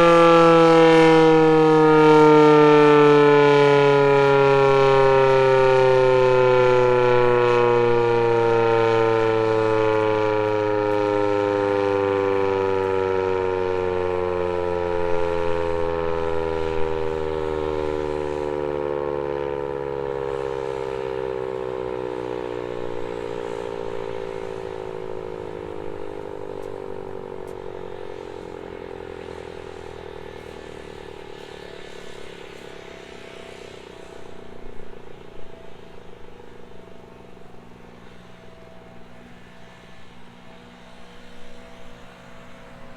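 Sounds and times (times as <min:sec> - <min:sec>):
warning siren winding down: 0:00.0 - 0:42.9.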